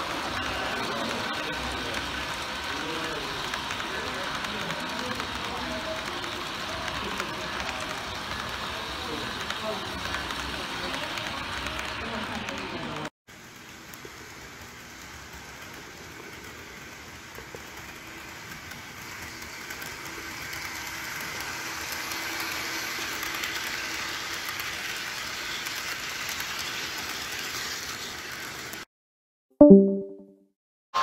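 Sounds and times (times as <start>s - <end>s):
model train rumbling on track: 0.0s - 28.9s.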